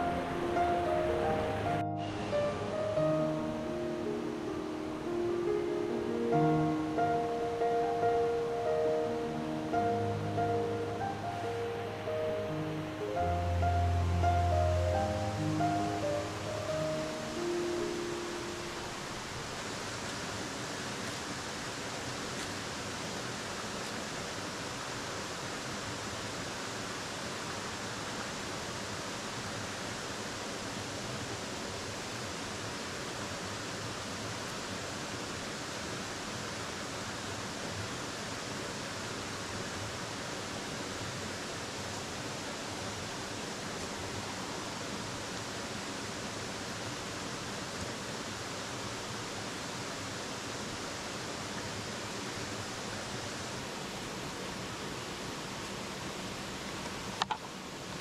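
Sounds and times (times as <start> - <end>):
stream rushing over rock: 0.0 - 58.0.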